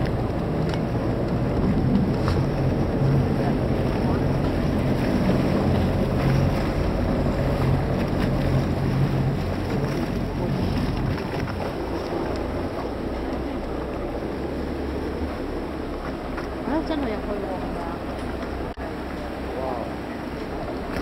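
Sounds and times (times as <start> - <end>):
boat engine running: 0.0 - 21.0
water rushing past hull: 0.0 - 21.0
wind buffeting microphone: 0.0 - 21.0.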